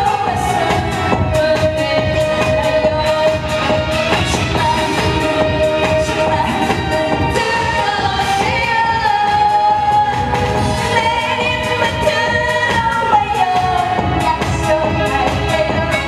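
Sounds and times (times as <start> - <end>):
backing music with drum beat: 0.0 - 16.0
woman singing into a microphone: 0.0 - 16.0.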